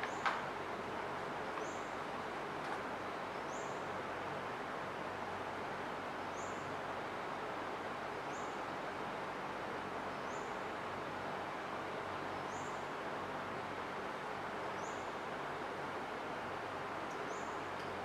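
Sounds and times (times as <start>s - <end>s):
room noise hiss: 0.0s - 18.0s.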